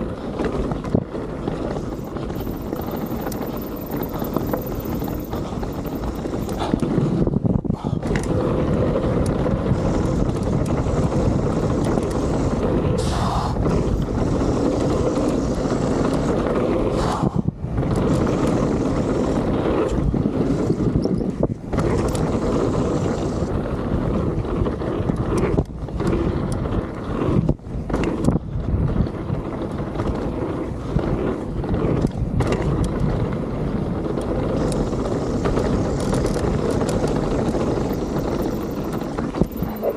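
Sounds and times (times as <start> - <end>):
bike tyres rolling over dirt: 0.0 - 39.9
wind rushing over microphone: 0.0 - 39.9.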